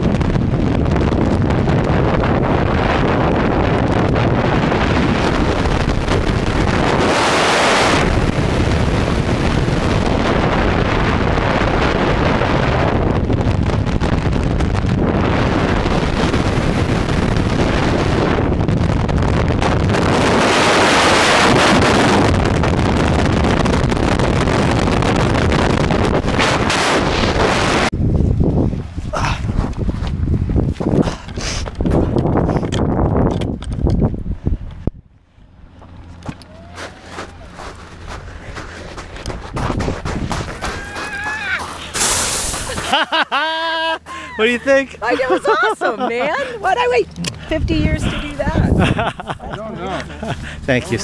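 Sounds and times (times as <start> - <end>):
wind buffeting microphone: 0.0 - 43.4, 44.0 - 51.0.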